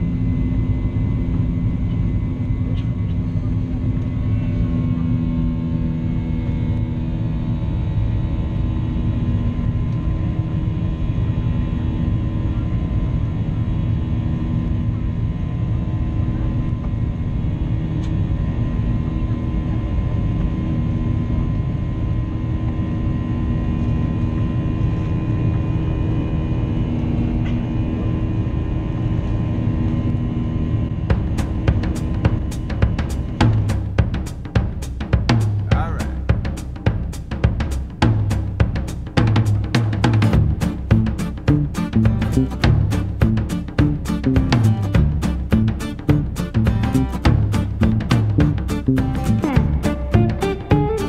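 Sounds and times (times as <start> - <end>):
jet engine rumble in cabin: 0.0 - 41.1.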